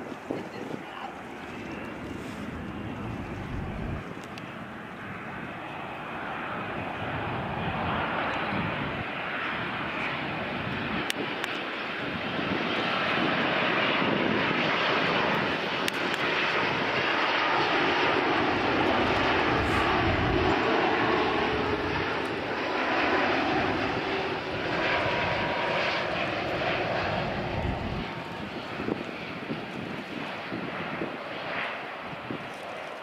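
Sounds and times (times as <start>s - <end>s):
jet engines of landing airliner: 0.0s - 33.0s.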